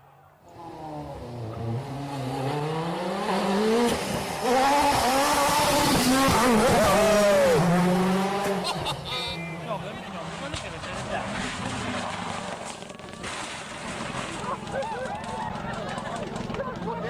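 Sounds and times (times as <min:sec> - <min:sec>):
rally car engine revving: 0:00.5 - 0:14.8.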